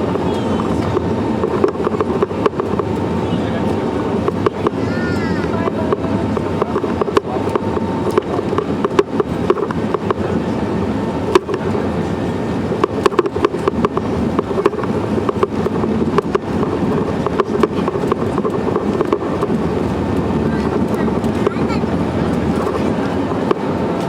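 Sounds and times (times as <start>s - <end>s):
aircraft engine and air rumble: 0.0s - 24.0s.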